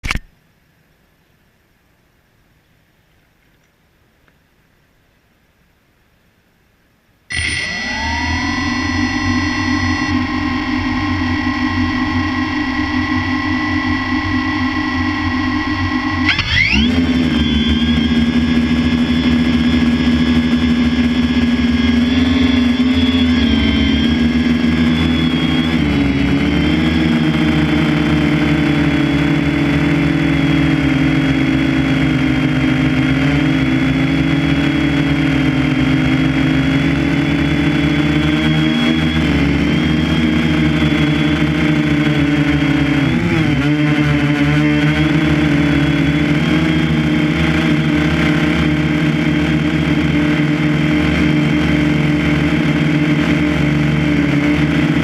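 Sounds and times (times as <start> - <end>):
motor running: 7.3 - 55.0.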